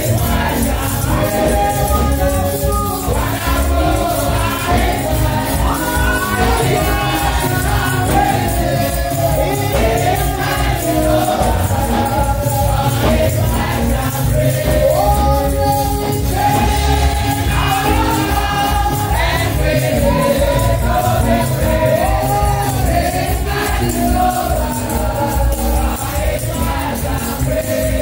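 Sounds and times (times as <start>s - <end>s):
tambourines shaking: 0.0s - 28.0s
women singing gospel together: 0.0s - 28.0s.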